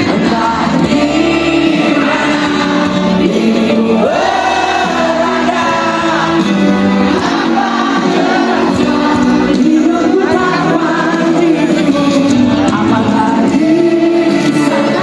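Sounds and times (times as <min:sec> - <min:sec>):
choir singing over public address: 0:00.0 - 0:15.0.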